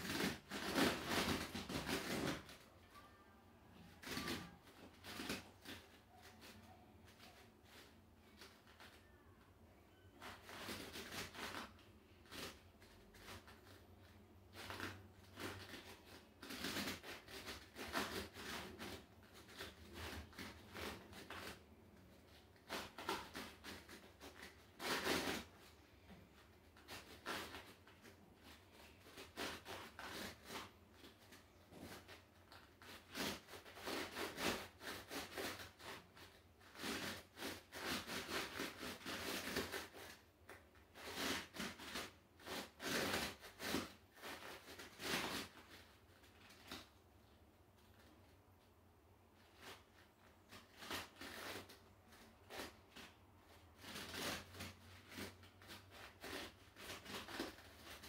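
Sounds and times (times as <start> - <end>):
rubbing on rubber disc: 0.0 - 48.6, 49.3 - 58.0.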